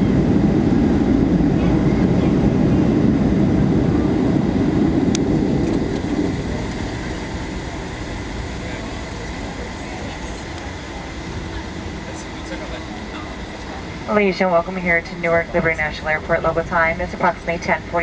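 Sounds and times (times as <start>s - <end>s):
jet engines and runway rumble: 0.0s - 18.0s.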